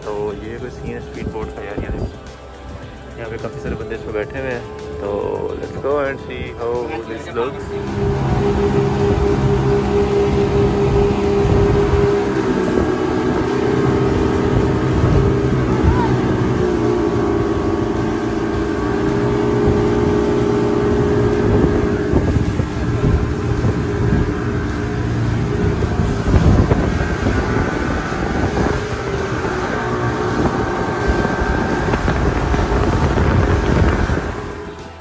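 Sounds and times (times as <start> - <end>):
outboard motor drone: 0.0 - 35.0
rushing water: 0.0 - 35.0
wind buffeting microphone: 0.6 - 4.4, 7.4 - 35.0.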